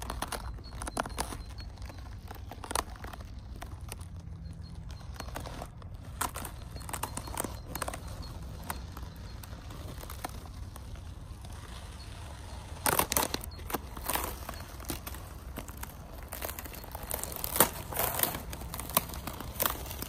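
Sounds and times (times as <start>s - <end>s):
steady low hum: 0.0s - 20.0s
tyres crunching over frozen snow: 0.0s - 20.0s.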